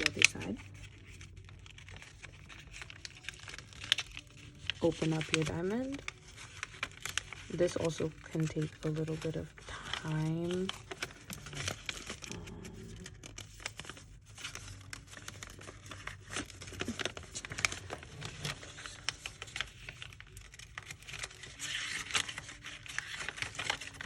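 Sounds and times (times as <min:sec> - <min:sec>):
paper being folded and creased: 0:00.0 - 0:24.0.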